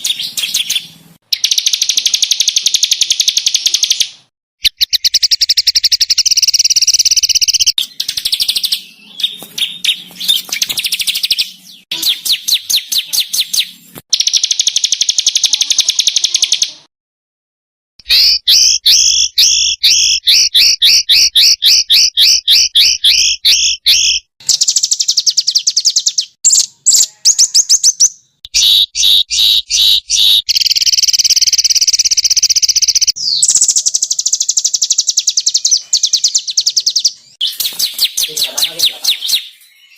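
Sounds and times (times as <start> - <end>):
songbirds trilling: 0.0 - 16.9, 18.0 - 39.9.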